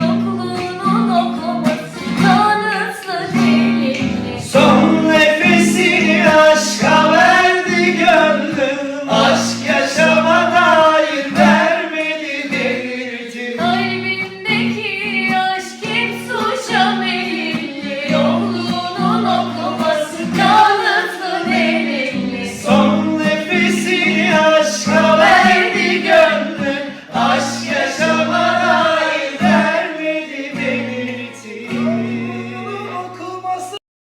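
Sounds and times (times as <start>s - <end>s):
woman singing: 0.0s - 11.8s, 12.9s - 32.8s.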